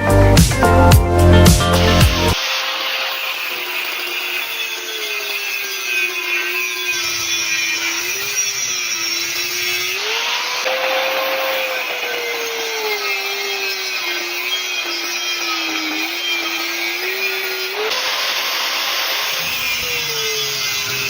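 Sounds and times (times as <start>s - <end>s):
power tool grinding metal: 0.0s - 21.0s.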